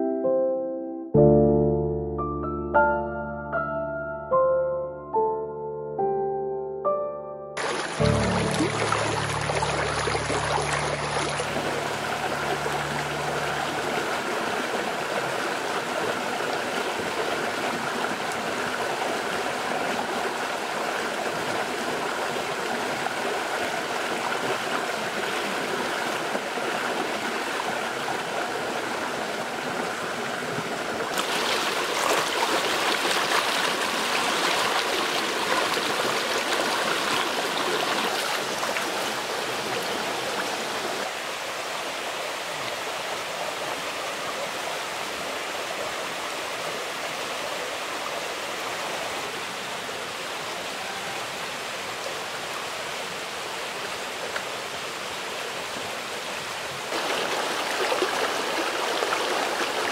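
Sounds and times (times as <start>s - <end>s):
stream rushing over boulders: 7.6s - 59.9s.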